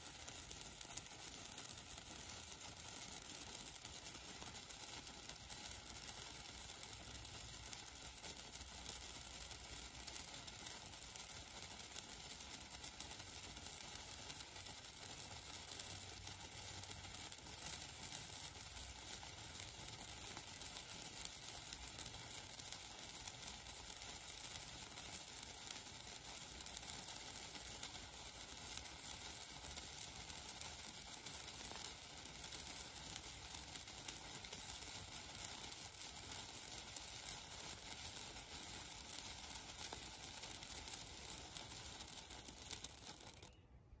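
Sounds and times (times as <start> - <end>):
sparkler hissing and crackling: 0.0 - 43.5.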